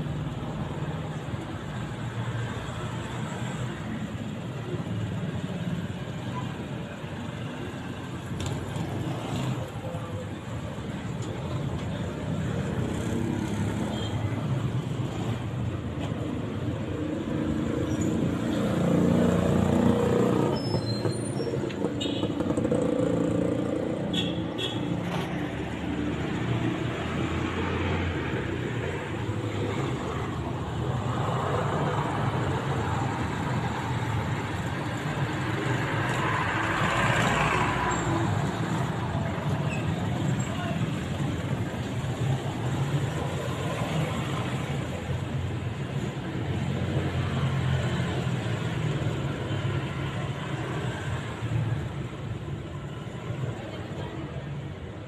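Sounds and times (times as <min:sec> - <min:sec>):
motorbikes and cars passing: 0:00.0 - 0:55.0.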